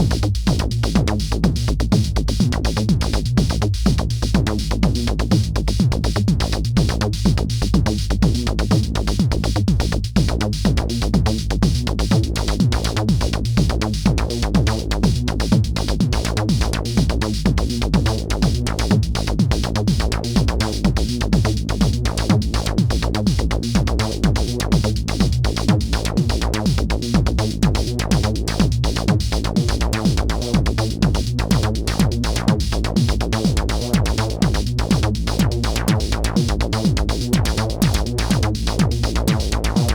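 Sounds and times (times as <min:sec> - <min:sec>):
deep synth bass: 0:00.0 - 0:39.9
electronic drum pattern: 0:00.0 - 0:39.9.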